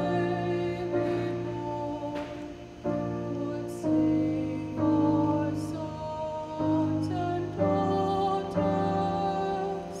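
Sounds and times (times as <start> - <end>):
choir singing slow song: 0.0 - 10.0.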